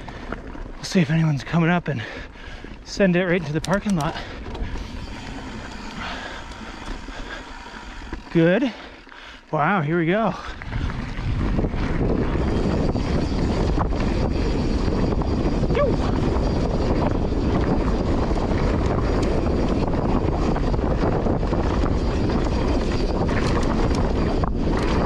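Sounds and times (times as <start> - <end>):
bike tyres rumbling and clicking: 0.0 - 25.0
wind rush on microphone: 0.0 - 25.0.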